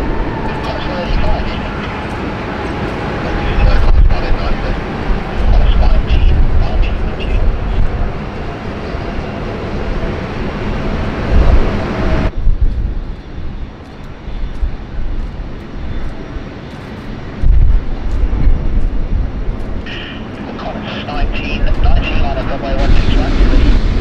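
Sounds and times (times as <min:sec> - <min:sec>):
jet airliner engine rumble: 0:00.0 - 0:24.0.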